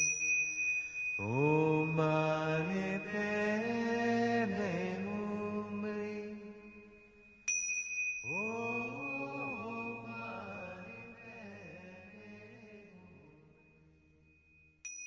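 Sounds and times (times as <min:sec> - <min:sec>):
bell ringing: 0:00.0 - 0:15.0.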